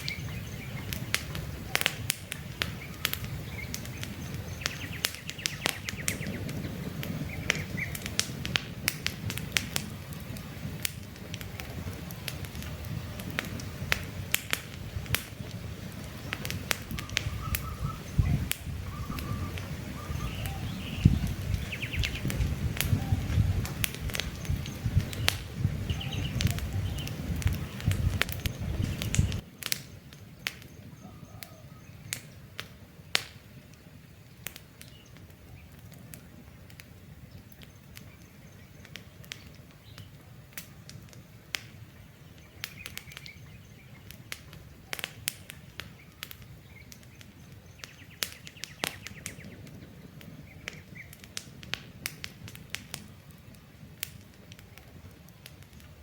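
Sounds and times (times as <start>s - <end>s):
birds chirping faintly: 0.0s - 8.2s, 9.1s - 51.4s
campfire crackling and popping: 0.0s - 56.0s.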